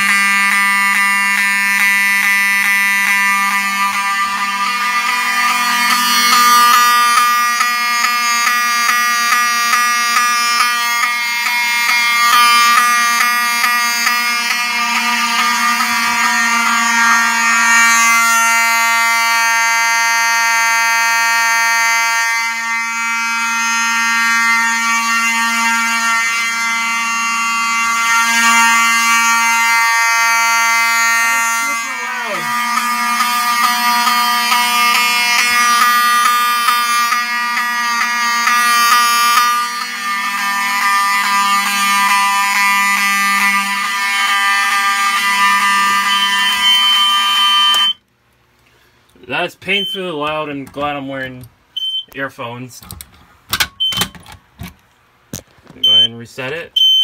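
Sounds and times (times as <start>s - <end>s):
harsh buzzing alarm horn: 0.0s - 48.1s, 48.8s - 52.8s, 55.8s - 57.0s.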